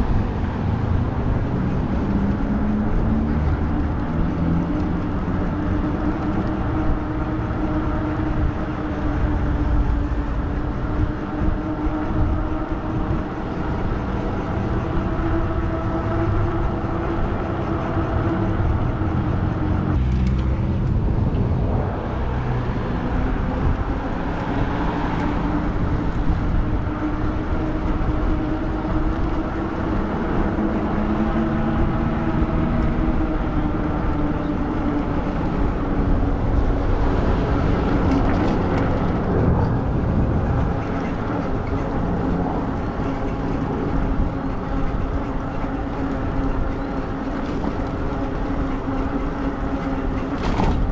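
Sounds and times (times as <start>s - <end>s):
wind rumbling on microphone: 0.0s - 50.9s.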